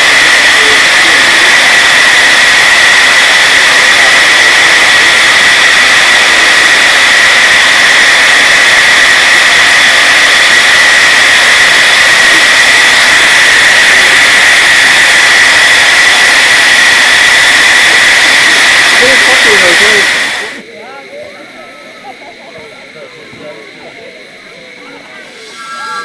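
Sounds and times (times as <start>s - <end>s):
steam hissing with whistling tone: 0.0s - 26.0s.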